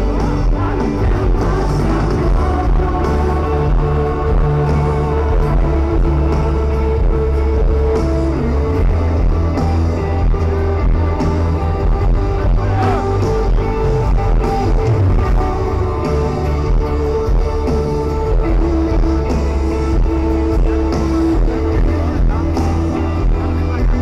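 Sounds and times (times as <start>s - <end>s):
live worship band music: 0.0s - 24.0s
person singing: 0.0s - 24.0s.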